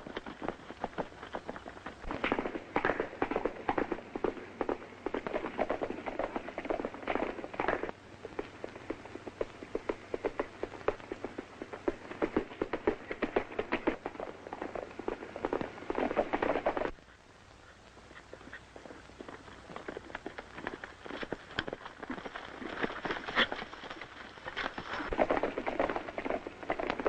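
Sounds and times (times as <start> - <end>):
horses galloping hoofbeats: 0.0 - 27.0.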